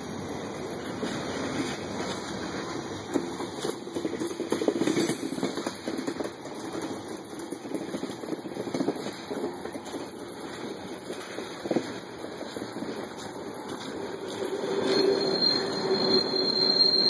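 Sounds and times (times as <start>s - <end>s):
freight train rolling past: 0.0s - 17.0s
rapid clanks and clicks: 1.1s - 15.6s.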